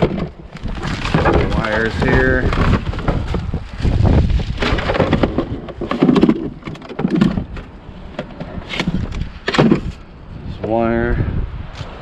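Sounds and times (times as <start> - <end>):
scrap clattering and rustling: 0.0 - 10.1
wind buffeting microphone: 0.0 - 12.0.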